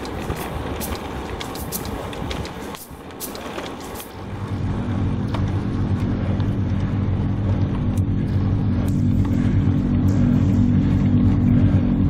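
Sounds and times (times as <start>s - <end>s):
bike road noise: 0.0s - 12.0s
low engine-like hum: 0.0s - 12.0s.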